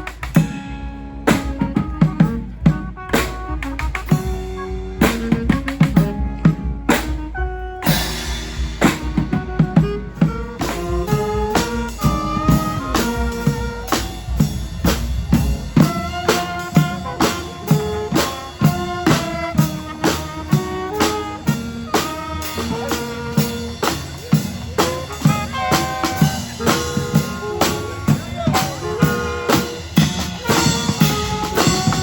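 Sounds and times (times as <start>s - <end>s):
drum beat: 0.0s - 32.0s
horns playing: 0.0s - 32.0s.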